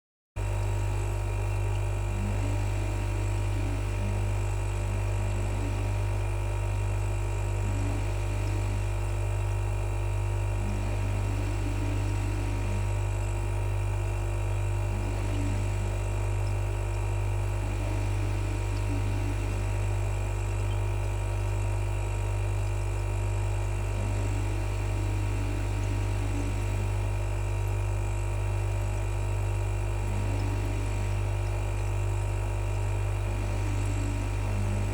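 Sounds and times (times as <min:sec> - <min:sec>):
refrigerator compressor humming: 0:00.4 - 0:34.9.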